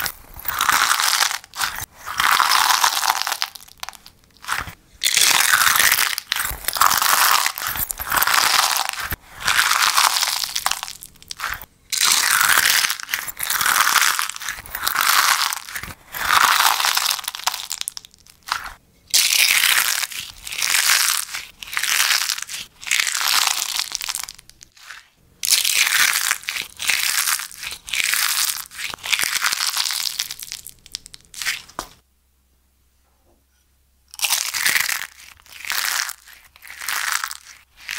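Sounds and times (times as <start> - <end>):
crispy slime crackling and crunching: 0.0 - 32.0, 34.1 - 37.9.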